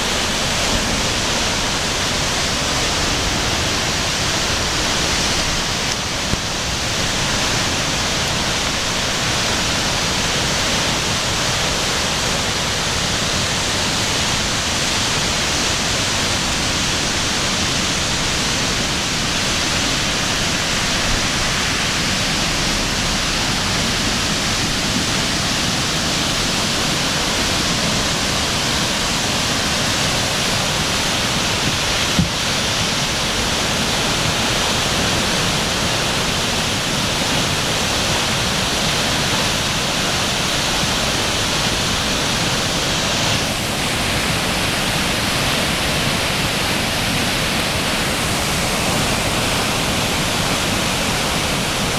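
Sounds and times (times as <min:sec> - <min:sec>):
flood water rushing: 0:00.0 - 0:51.9.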